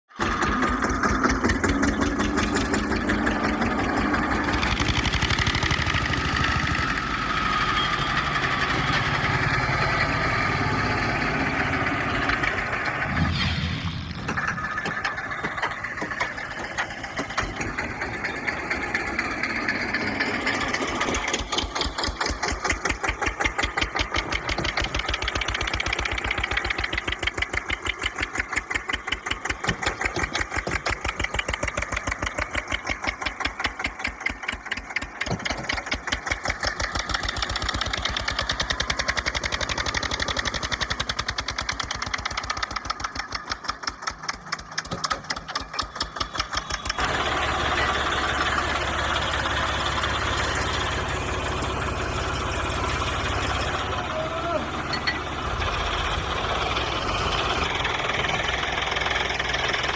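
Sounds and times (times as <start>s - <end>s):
engine running with pulsing beat: 0.1s - 59.9s.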